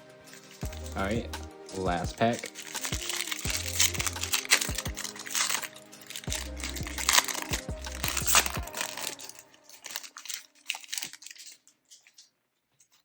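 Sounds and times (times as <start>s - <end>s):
background music: 0.0s - 11.3s
foil wrapper crinkling and tearing: 0.2s - 13.0s.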